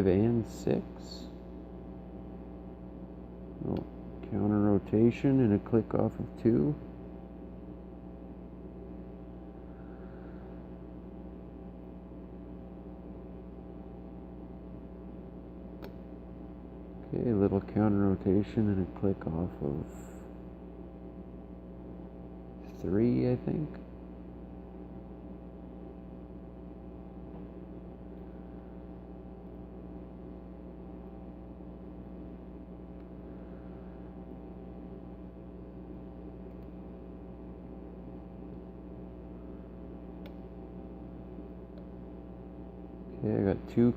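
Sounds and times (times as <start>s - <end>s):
low background hum: 0.0s - 43.9s.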